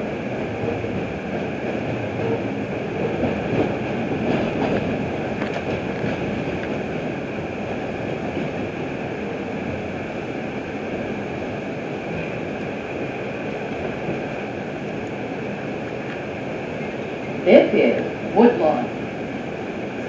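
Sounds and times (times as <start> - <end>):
subway train wheels on rail: 0.0 - 20.0.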